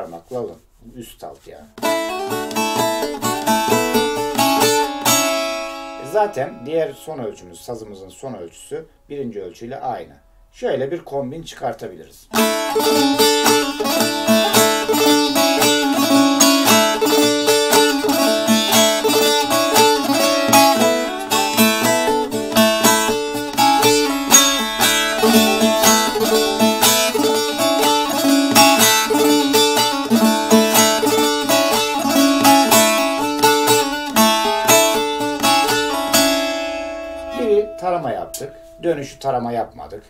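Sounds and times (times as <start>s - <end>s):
saz folk melody: 0.0s - 10.6s, 12.3s - 39.7s.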